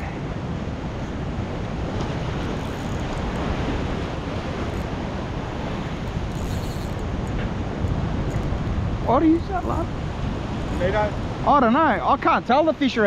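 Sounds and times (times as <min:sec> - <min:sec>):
wind buffeting microphone: 0:00.0 - 0:12.2
waves washing against rocks: 0:00.0 - 0:13.0.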